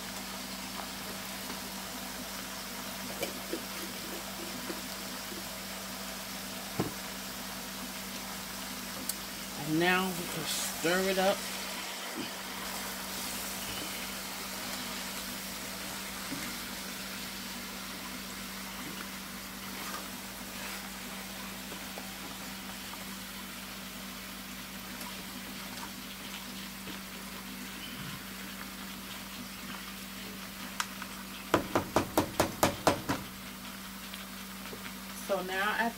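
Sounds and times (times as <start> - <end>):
meat sizzling in a frying pan: 0.0 - 35.9.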